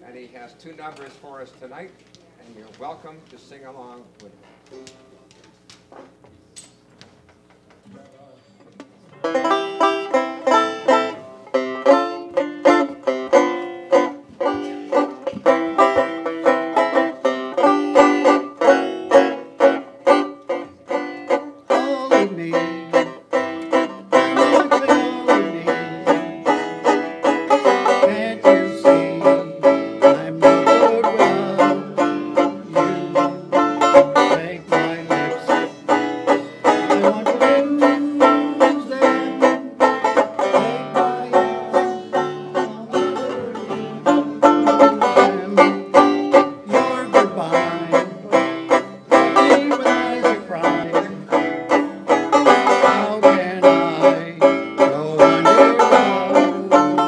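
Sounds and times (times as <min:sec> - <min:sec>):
acoustic string band: 0:09.2 - 0:57.0
banjo picking a brisk tune: 0:09.2 - 0:57.0.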